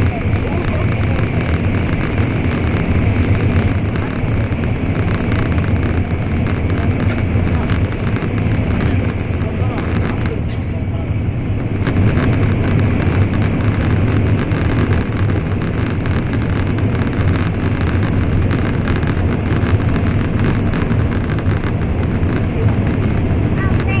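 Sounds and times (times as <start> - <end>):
train interior running noise: 0.0 - 24.0.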